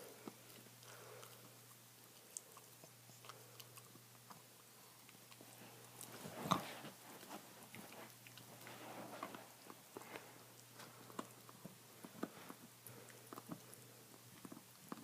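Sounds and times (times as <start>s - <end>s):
dog gnawing on bone: 0.0s - 15.0s.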